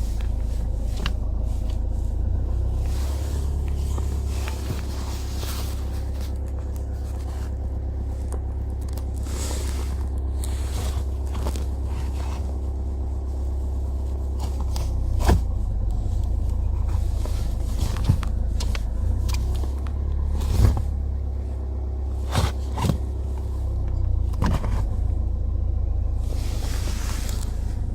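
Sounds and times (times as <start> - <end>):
diesel engine low rumble: 0.0 - 27.9.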